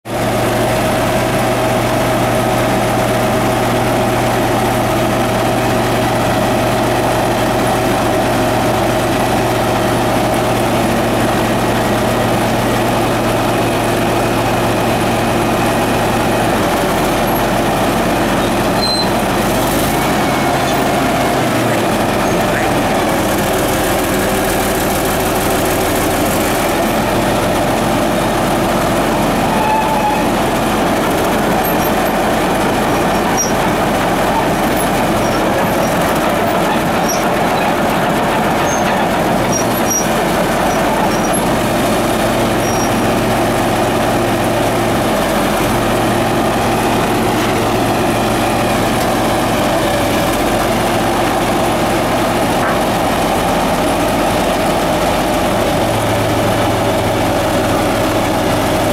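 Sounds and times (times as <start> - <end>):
diesel engine droning: 0.1 - 58.9.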